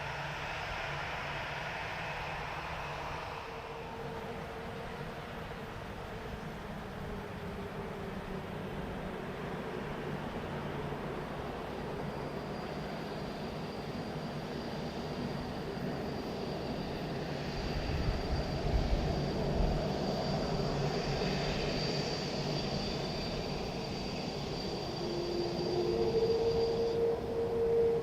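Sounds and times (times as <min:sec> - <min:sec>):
jet engines passing overhead: 0:00.0 - 0:28.0.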